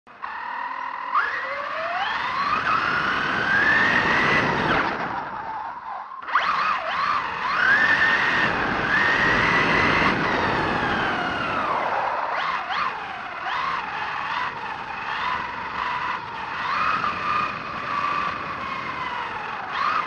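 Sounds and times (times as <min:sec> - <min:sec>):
rc buggy electric motor whining: 0:00.1 - 0:20.0.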